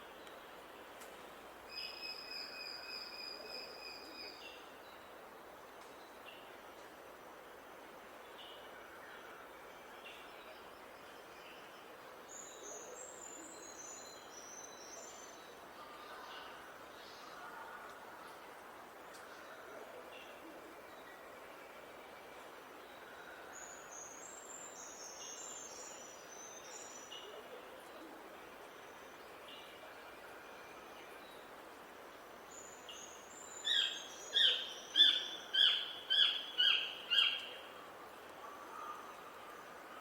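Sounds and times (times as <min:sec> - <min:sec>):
faint outdoor hiss: 0:00.0 - 0:40.0.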